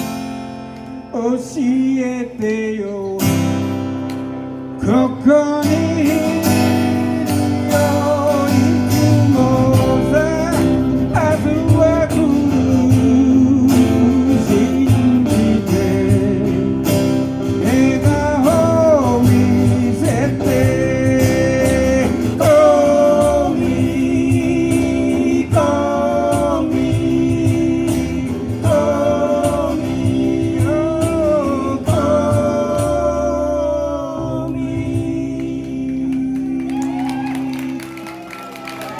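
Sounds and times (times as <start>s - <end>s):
bass line: 0.0s - 38.9s
strummed guitar: 0.0s - 38.9s.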